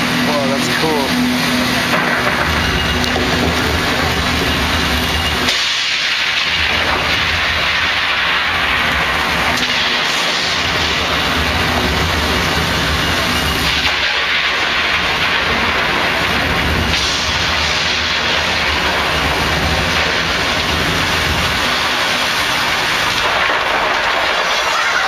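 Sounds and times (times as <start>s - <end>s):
deep rumble: 0.0s - 24.7s
loud steady rushing noise: 0.0s - 25.0s.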